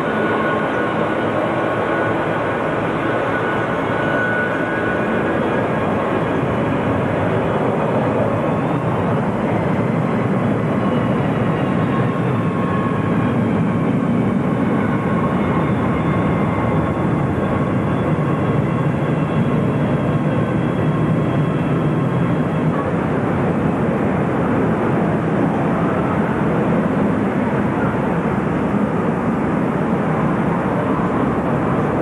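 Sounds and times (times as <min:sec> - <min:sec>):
high engine whine: 0:00.0 - 0:32.0
jet engines rushing: 0:00.0 - 0:32.0.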